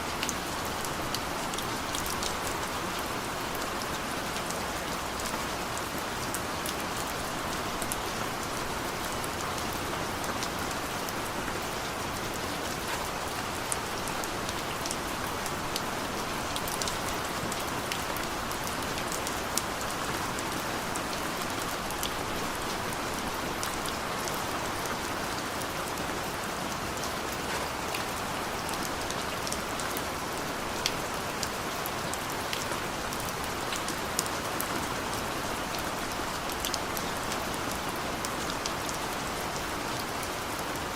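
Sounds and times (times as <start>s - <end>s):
steady rain hiss: 0.0s - 40.9s
raindrops ticking on a surface: 0.1s - 40.9s.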